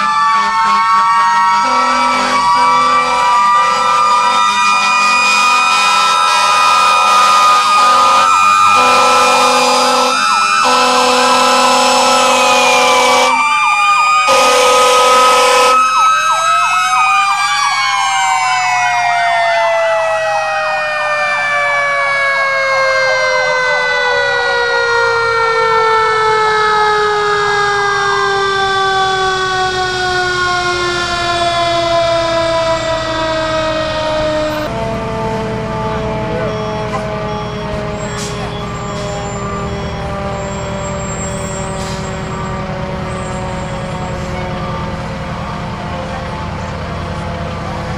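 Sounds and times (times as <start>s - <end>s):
fire truck air horn blasts: 0.0s - 16.1s, 22.6s - 45.0s
mechanical siren winding down: 0.0s - 47.9s
sirens rising and falling: 0.0s - 47.9s.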